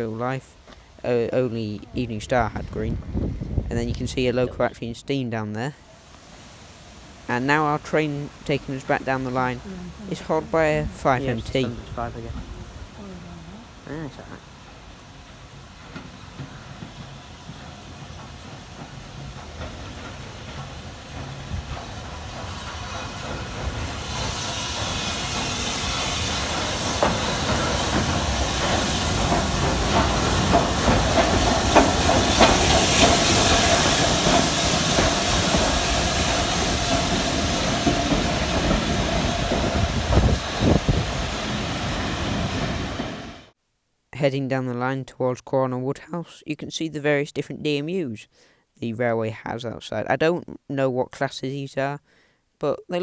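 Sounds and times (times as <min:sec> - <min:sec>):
steam hissing: 0:00.0 - 0:43.6
steam locomotive approaching: 0:00.0 - 0:43.6
train wheels clicking: 0:00.0 - 0:43.6.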